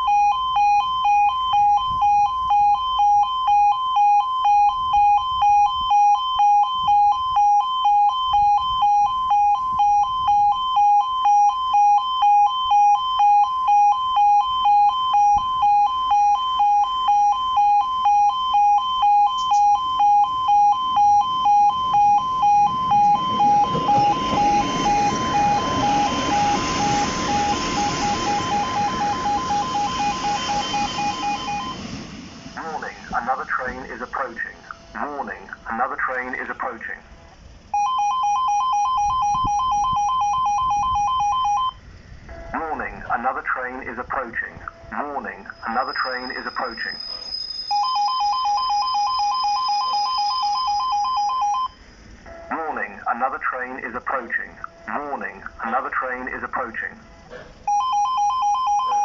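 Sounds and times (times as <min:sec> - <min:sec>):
diesel train engine and wheels: 0:00.0 - 0:59.0
two-tone crossing warning alarm: 0:00.0 - 0:59.0.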